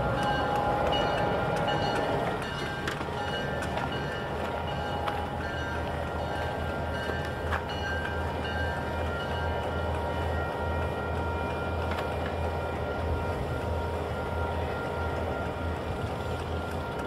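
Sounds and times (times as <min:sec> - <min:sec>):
diesel locomotive hum: 0:00.0 - 0:17.0.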